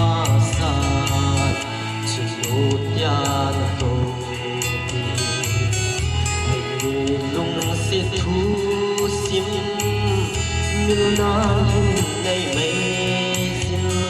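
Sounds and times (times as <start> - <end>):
instrumental song with pulsing bass: 0.0 - 14.0.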